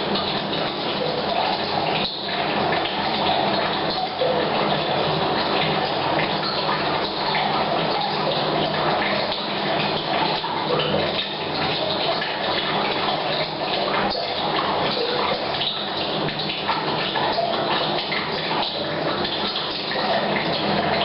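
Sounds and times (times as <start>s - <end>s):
water pouring into a tank: 0.0s - 21.0s.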